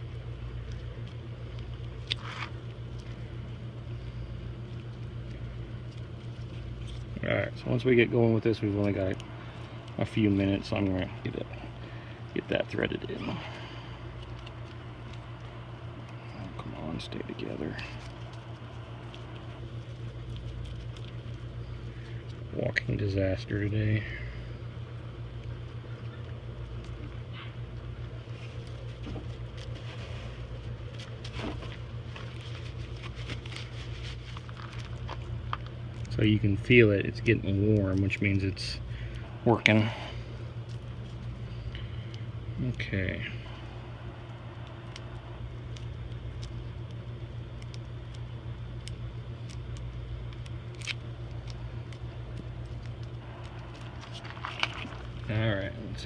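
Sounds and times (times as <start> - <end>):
low machine hum: 0.0 - 56.0
gloved hands rustling: 0.5 - 23.6, 24.3 - 42.6, 43.3 - 56.0.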